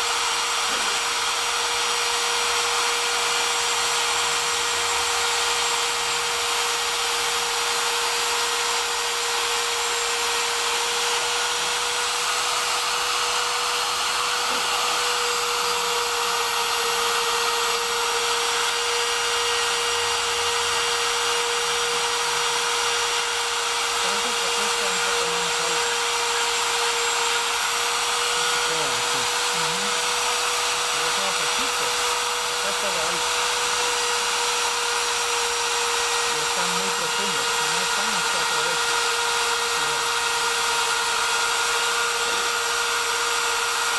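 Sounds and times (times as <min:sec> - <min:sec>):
router spindle motor whining: 0:00.0 - 0:43.9.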